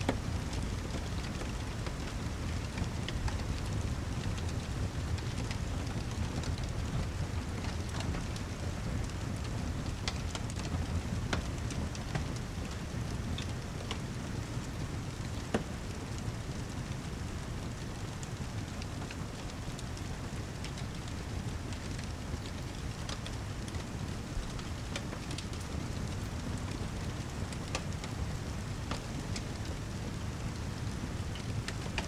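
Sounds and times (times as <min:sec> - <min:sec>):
fireplace crackling and popping: 0:00.0 - 0:32.0
heavy rain: 0:00.1 - 0:32.0.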